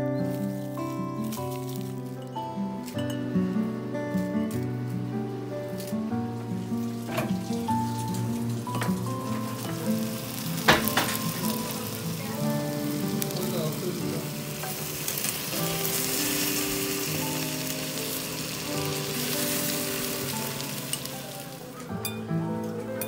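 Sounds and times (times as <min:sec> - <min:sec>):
meat sizzling in a pan: 0:00.0 - 0:22.8
soft background music: 0:00.0 - 0:23.0.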